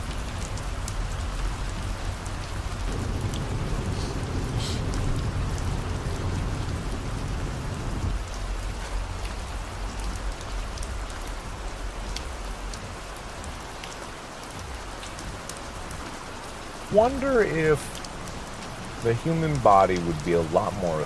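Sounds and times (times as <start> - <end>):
rain falling on a car: 0.0 - 21.0
road rumble: 0.0 - 21.0.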